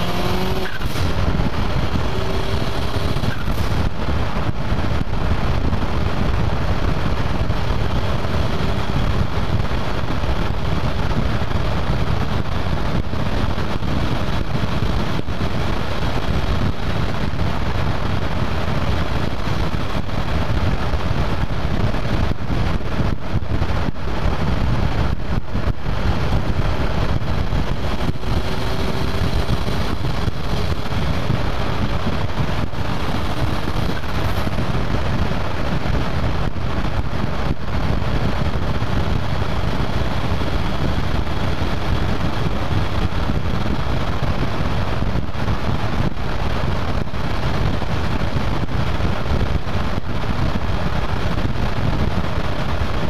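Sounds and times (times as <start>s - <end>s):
vehicle engine and road noise: 0.0s - 53.0s
wind on microphone: 0.0s - 53.0s.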